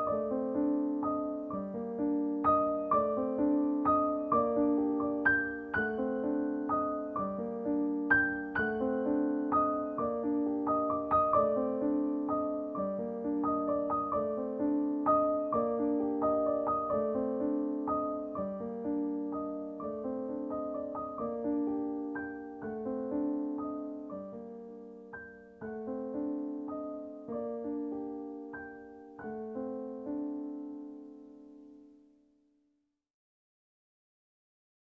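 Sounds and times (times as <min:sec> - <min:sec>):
gentle piano music: 0:00.0 - 0:32.4.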